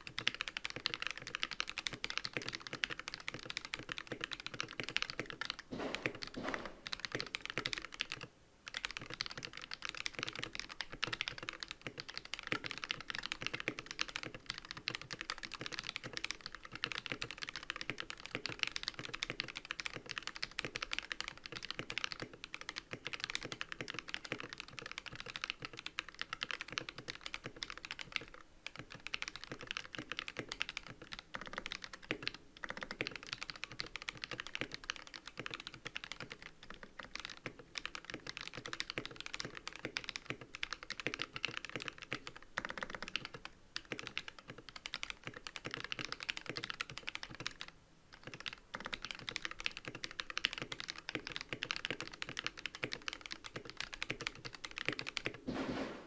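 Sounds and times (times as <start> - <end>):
fast typing on mechanical keyboard: 0.0 - 55.9.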